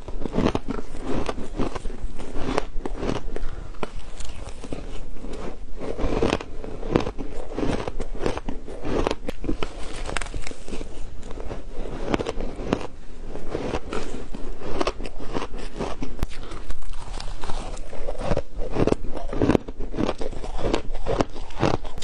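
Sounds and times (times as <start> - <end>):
shaved ice crunching chewed: 0.0 - 22.0.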